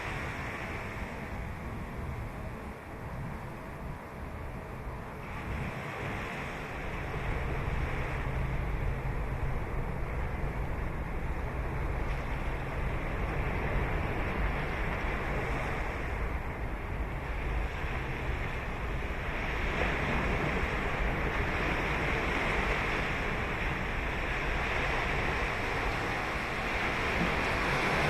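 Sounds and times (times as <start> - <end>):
ocean surf breaking on beach: 0.0 - 28.0.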